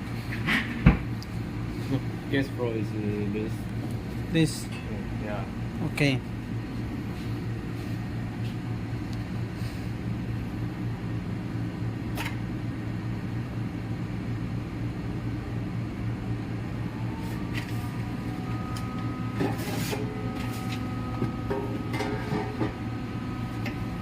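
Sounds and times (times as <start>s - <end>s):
electrical hum of equipment: 0.0s - 24.0s.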